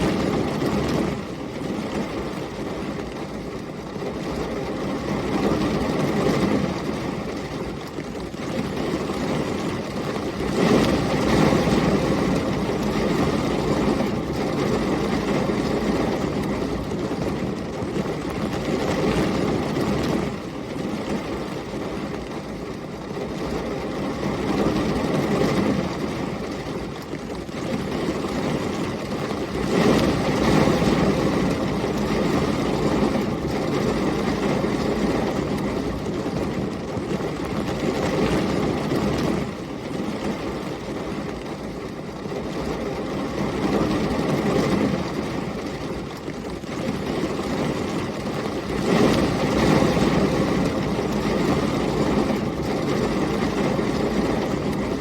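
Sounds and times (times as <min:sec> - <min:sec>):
heavy rain: 0:00.0 - 0:55.0
storm wind gusts: 0:00.0 - 0:55.0.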